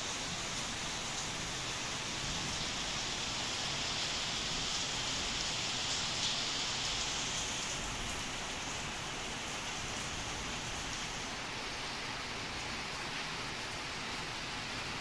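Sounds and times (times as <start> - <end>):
rain on concrete and leaves: 0.0 - 15.0.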